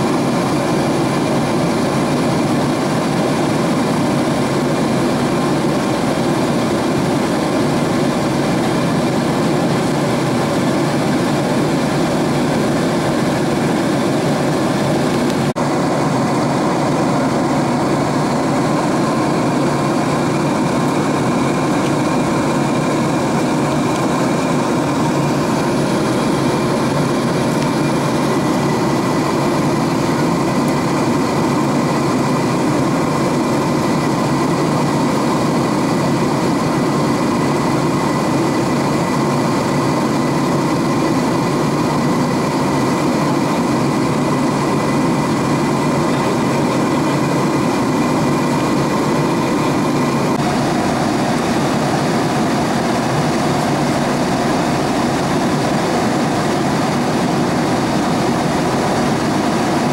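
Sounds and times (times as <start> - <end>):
airliner cabin roar: 0.0 - 59.9.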